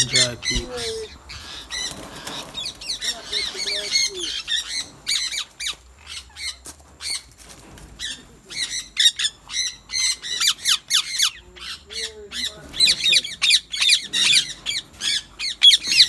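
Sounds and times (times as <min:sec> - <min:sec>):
parrots squawking and chattering: 0:00.0 - 0:16.0.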